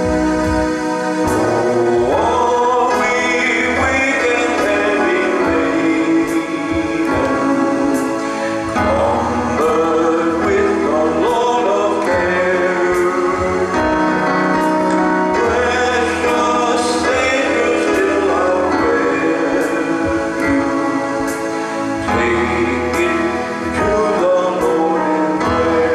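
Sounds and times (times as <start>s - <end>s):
hymn on electronic keyboard: 0.0s - 25.9s.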